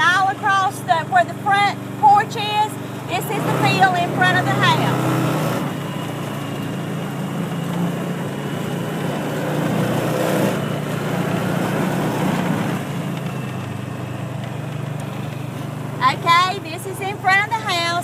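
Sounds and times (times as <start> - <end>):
small vehicle engine rattling: 0.0 - 18.0.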